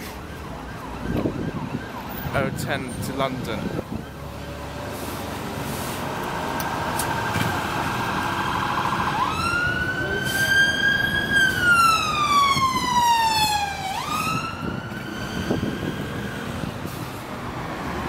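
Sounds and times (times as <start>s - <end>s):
emergency vehicle siren wailing: 0.0s - 18.0s
road traffic noise: 0.0s - 18.0s.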